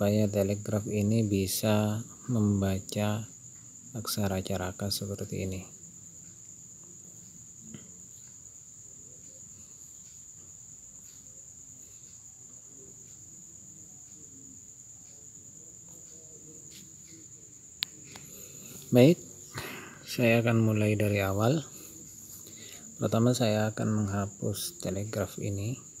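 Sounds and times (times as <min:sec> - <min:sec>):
faint low background noise: 0:00.0 - 0:26.0
high-pitched insect trill: 0:00.0 - 0:26.0.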